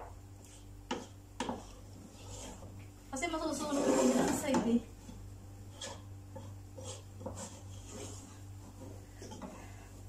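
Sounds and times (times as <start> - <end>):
wooden spatula scraping paste: 0.4 - 10.0.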